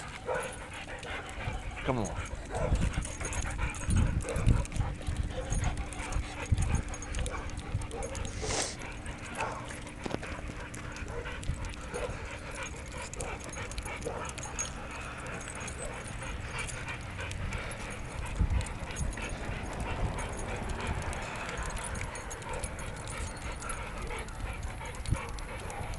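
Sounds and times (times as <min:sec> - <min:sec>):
dogs whimpering and panting: 0:00.0 - 0:25.9.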